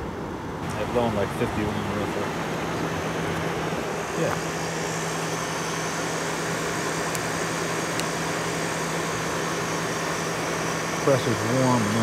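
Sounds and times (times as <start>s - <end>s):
compressor humming: 0.0s - 12.0s
fan rushing: 0.0s - 12.0s.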